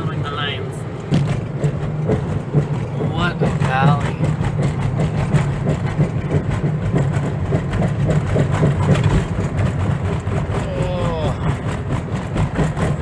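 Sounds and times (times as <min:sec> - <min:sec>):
small rattles and road ticks: 0:00.0 - 0:13.0
van engine and tyres drone: 0:00.0 - 0:13.0.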